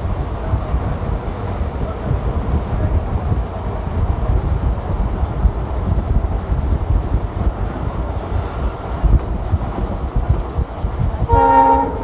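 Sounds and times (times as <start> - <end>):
train wheels rumbling on rails: 0.0 - 12.0
wind buffeting microphone: 0.0 - 12.0.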